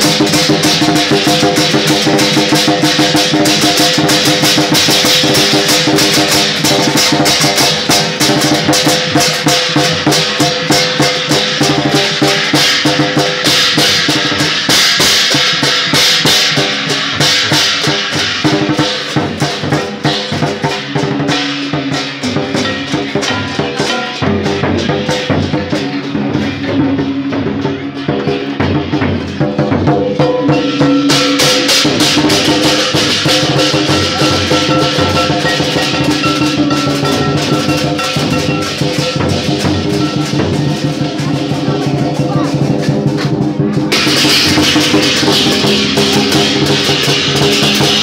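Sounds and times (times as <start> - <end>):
drum beaten fast: 0.0 - 48.0
hand cymbals clashing: 0.0 - 48.0.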